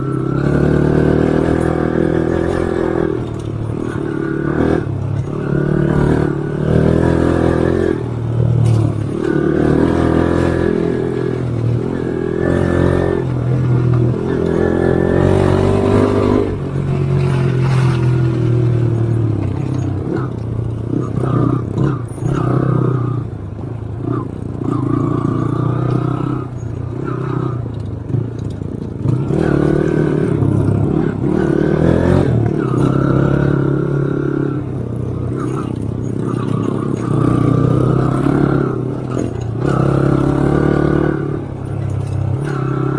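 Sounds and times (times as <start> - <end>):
off-road vehicle engine revving: 0.0 - 42.9.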